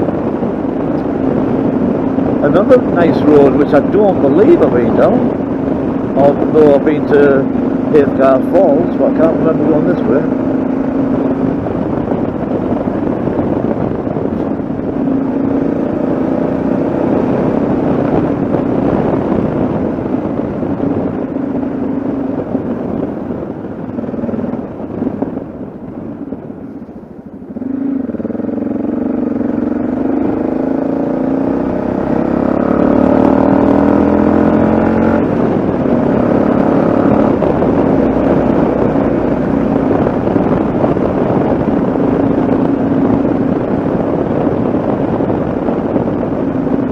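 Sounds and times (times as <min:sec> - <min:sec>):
motorcycle engine running: 0:00.0 - 0:46.9
road and wind noise: 0:00.0 - 0:46.9.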